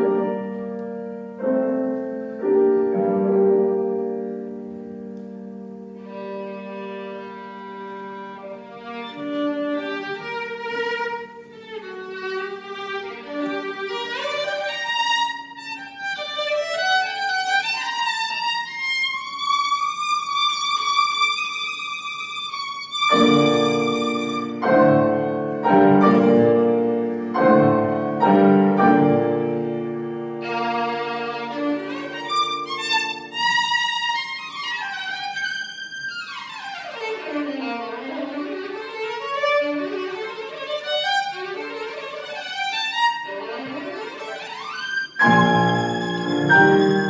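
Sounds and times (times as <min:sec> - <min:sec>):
piano accompaniment: 0:00.0 - 0:47.0
violin melody: 0:00.0 - 0:47.0.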